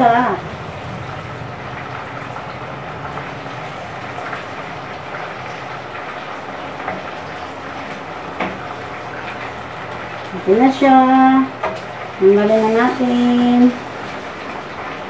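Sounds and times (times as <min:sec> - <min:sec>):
pork sizzling in a frying pan: 0:00.0 - 0:15.0.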